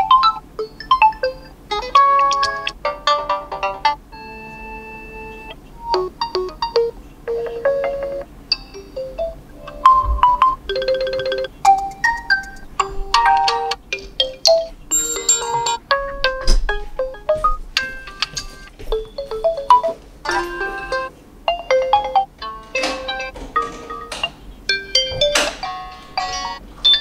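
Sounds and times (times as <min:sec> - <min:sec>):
phone ringtone melodies: 0:00.0 - 0:27.0.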